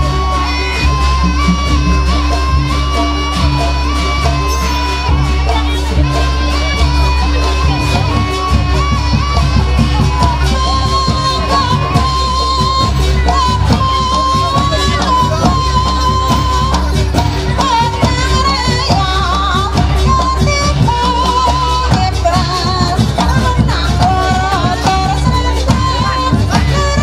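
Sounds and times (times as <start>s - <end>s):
high wavering melody: 0.0s - 27.0s
steady drumming: 0.0s - 27.0s.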